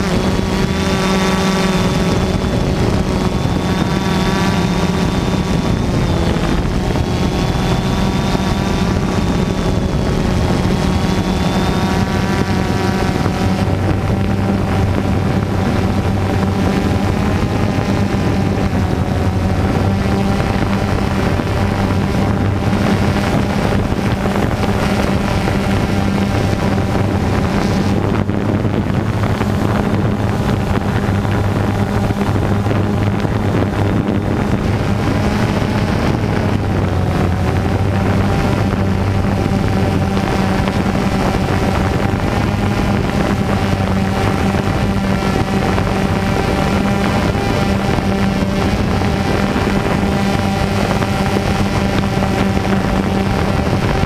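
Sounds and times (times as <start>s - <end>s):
drone motors whining: 0.0s - 54.0s
wind buffeting microphone: 0.0s - 54.0s.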